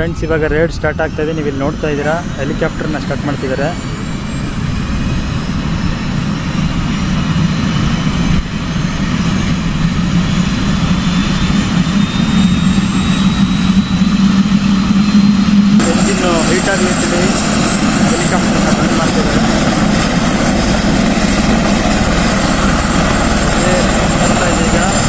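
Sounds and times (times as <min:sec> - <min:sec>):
helicopter turbine whine: 0:00.0 - 0:25.0
low steady drone: 0:00.0 - 0:25.0.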